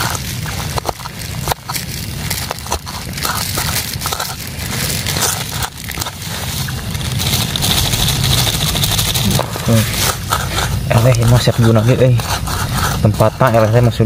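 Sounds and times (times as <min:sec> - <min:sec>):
food being crushed by hand: 0:00.0 - 0:13.1.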